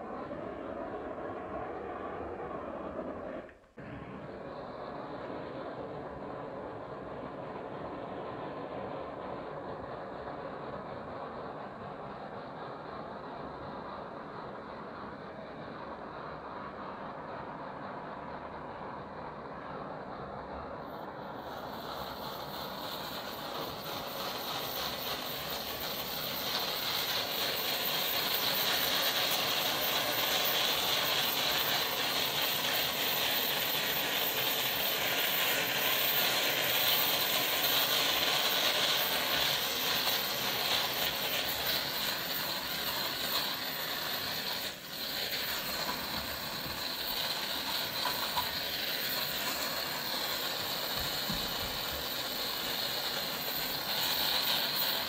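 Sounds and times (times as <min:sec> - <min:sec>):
blowtorch hissing: 0:00.0 - 0:55.0.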